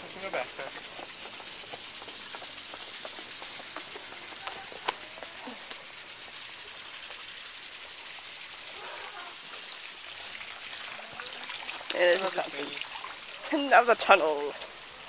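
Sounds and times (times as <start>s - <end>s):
lawn sprinklers hissing: 0.0s - 15.0s.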